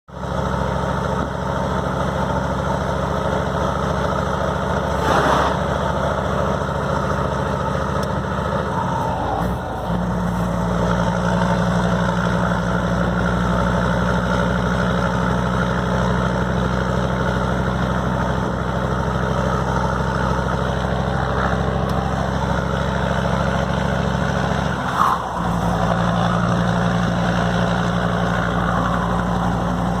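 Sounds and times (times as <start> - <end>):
diesel truck engine idling: 0.1 - 30.0.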